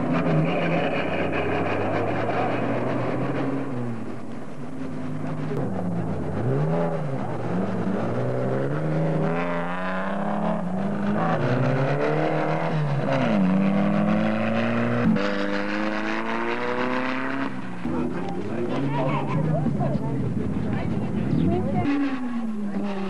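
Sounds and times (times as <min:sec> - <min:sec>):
race vehicle engine revving: 0:00.0 - 0:23.0.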